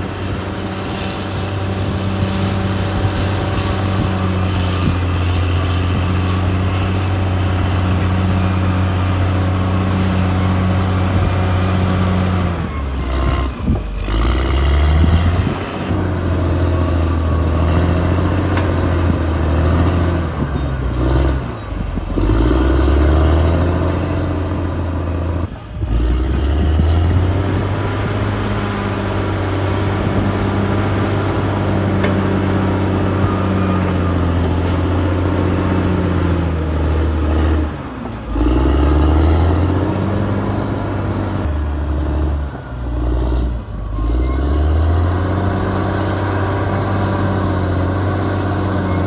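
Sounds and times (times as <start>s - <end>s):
bulldozer diesel engine under load: 0.0s - 49.0s.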